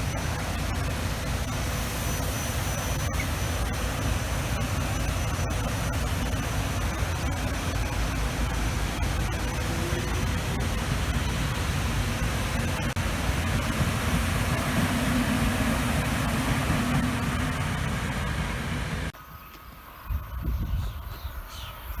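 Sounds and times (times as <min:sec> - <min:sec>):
train wheels rumbling on rail: 0:00.0 - 0:19.8
faint hum: 0:01.0 - 0:19.2.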